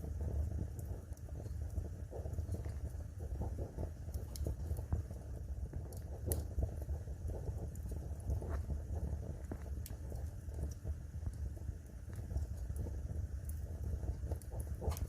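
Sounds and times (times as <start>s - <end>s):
log fire crackling: 0.0s - 15.0s
low rumble of flames: 0.0s - 15.0s
sharp fire pops: 2.2s - 15.0s.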